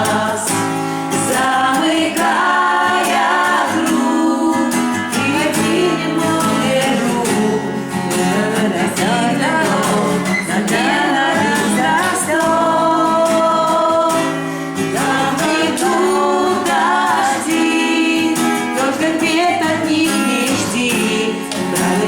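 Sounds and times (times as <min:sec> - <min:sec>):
acoustic guitar strumming: 0:00.0 - 0:22.0
voices singing: 0:00.0 - 0:22.0.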